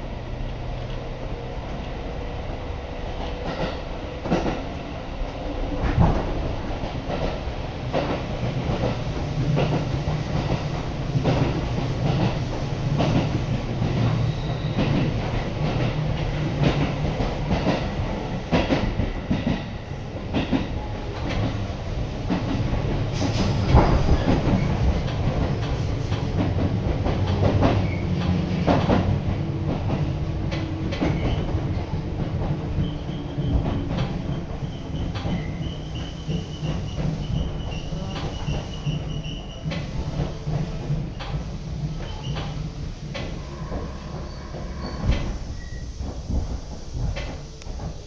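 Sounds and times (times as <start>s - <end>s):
train running rumble: 0.0s - 48.0s.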